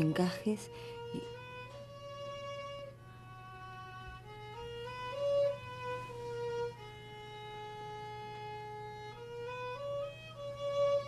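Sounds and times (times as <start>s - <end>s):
solo violin slow melody: 0.0s - 11.0s.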